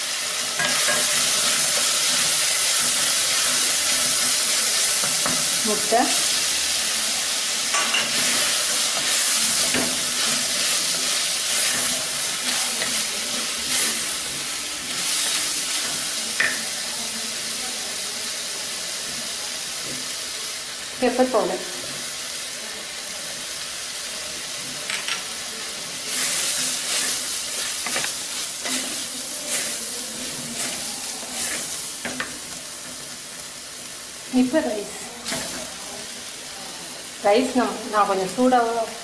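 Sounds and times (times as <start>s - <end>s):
food sizzling in a clay pot: 0.0s - 39.0s.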